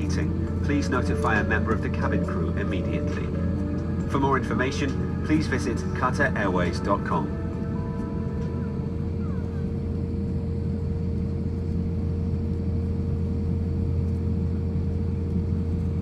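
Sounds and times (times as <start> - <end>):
aircraft cabin drone: 0.0 - 16.0
constant hum: 0.0 - 16.0.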